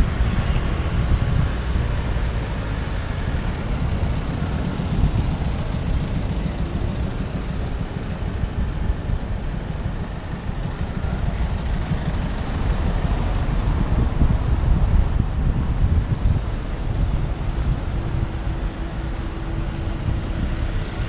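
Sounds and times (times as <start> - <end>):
car traffic passing: 0.0 - 21.0
wind rumble on microphone: 0.0 - 21.0.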